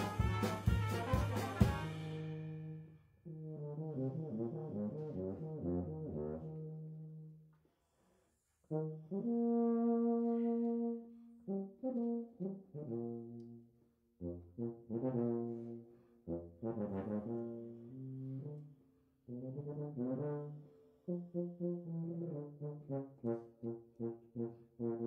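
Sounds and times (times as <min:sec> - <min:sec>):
tuba solo: 0:00.0 - 0:07.5, 0:08.6 - 0:25.0.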